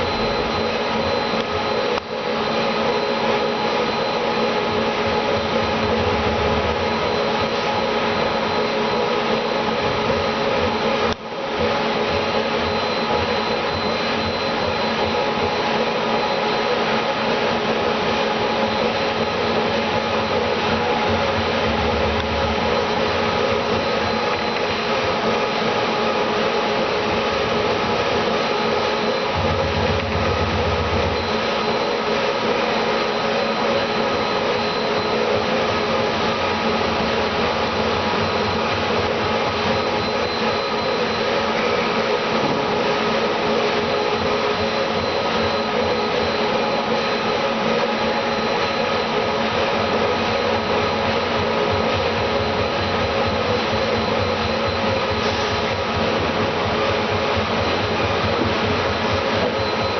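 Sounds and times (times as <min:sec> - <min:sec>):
machine motor whirring: 0:00.0 - 0:59.9.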